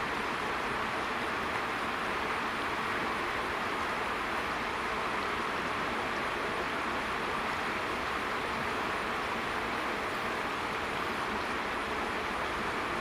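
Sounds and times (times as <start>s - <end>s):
flowing river water rushing: 0.0s - 13.0s.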